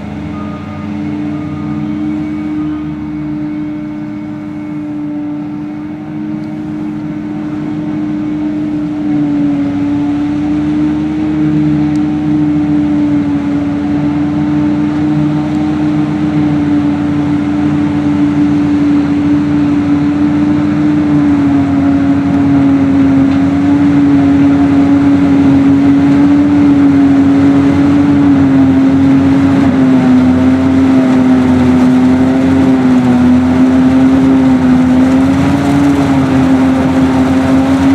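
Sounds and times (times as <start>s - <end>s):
diesel farm machinery whining: 0.0s - 37.9s.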